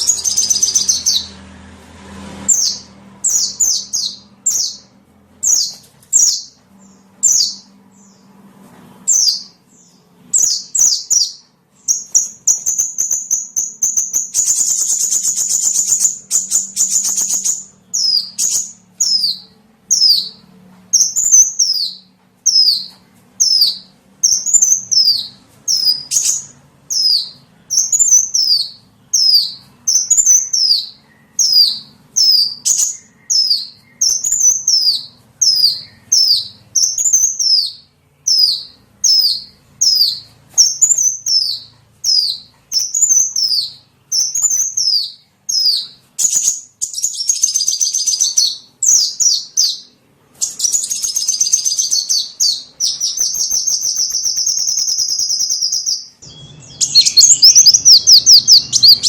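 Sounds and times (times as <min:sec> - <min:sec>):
songbird chirping and trilling: 0:00.0 - 0:01.7, 0:02.4 - 0:59.0.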